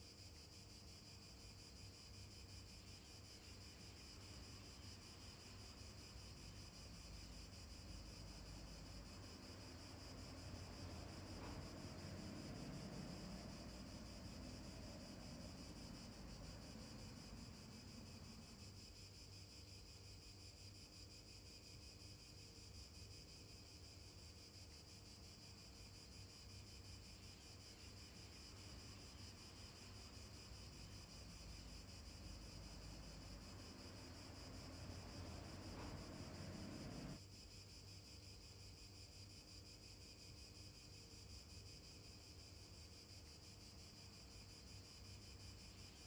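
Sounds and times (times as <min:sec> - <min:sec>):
steady high-pitched hiss: 0:00.0 - 0:46.0.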